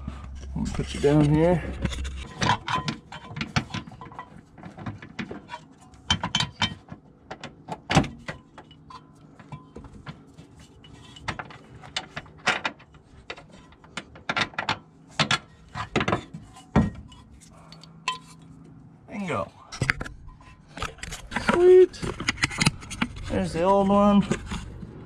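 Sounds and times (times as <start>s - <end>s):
metal tools knocking and clanking: 0.3s - 18.6s, 19.7s - 24.9s.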